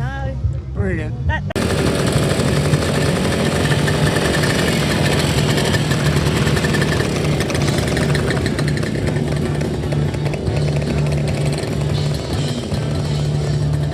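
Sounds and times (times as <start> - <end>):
motorcycle engine idling: 1.6 - 13.9.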